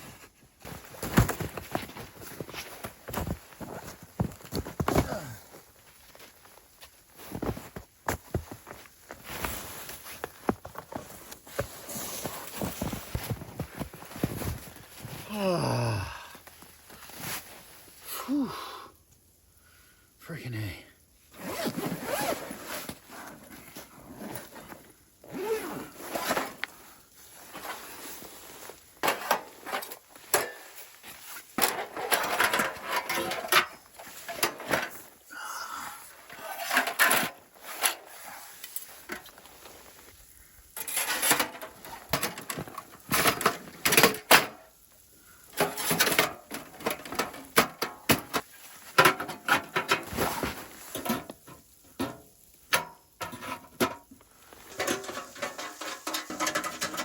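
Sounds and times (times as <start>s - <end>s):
camping gear rustling and clattering: 0.0s - 18.4s, 21.2s - 57.0s.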